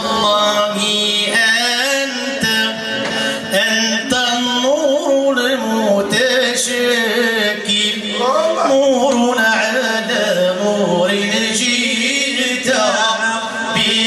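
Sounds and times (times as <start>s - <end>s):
men chanting a hymn: 0.0s - 14.0s.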